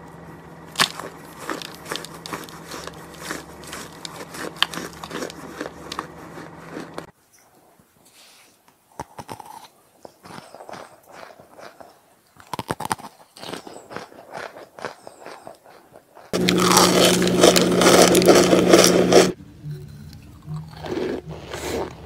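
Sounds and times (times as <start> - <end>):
biting and crunching hard chunk: 0.6 - 7.1, 9.0 - 19.4, 20.5 - 22.0.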